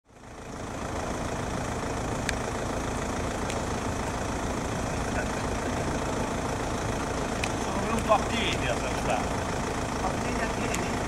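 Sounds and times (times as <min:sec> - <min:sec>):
heavy low rumble: 0:00.2 - 0:11.0.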